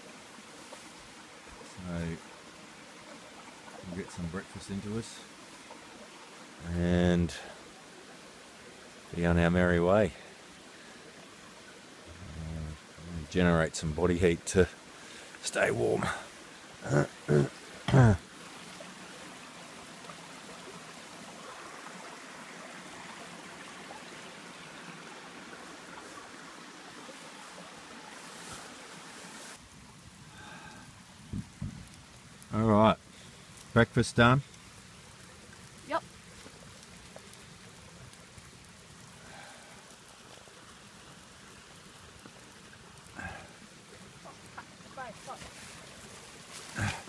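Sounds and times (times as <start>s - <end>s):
campfire hissing and crackling: 0.0s - 47.0s
creek flowing over stones: 0.0s - 47.0s.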